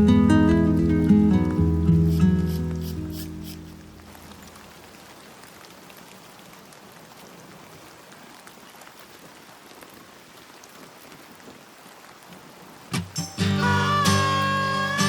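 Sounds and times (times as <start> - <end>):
rain falling steadily: 0.0 - 15.0.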